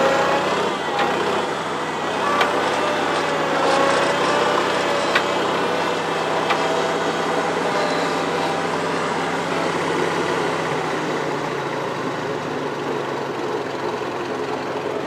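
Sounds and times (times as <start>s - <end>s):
machine scraping dirt: 0.0s - 12.3s
rising and falling whine: 0.0s - 12.7s
engine running under load: 0.0s - 15.0s.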